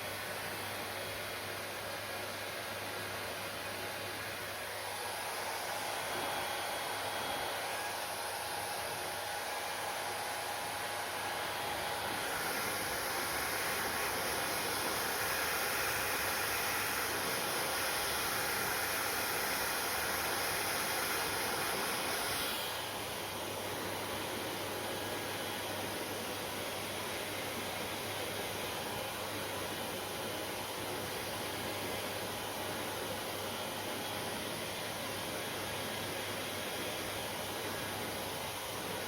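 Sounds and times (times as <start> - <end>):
hair dryer blowing: 0.0 - 39.0.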